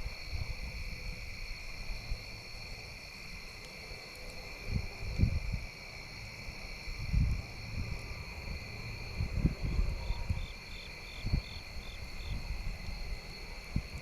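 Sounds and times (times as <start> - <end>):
crickets and insects trilling: 0.0 - 14.0
insect chirping: 0.0 - 14.0.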